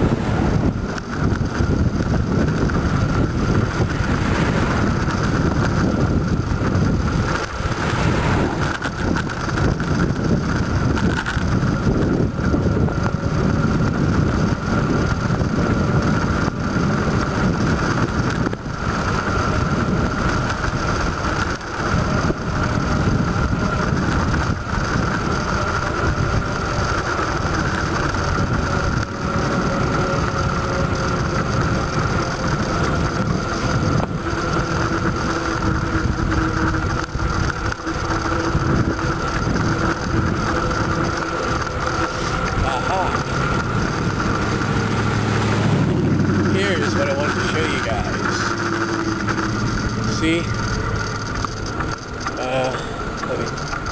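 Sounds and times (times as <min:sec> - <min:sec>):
thin steady whine: 0:00.0 - 0:53.9
wind buffeting microphone: 0:00.0 - 0:53.9.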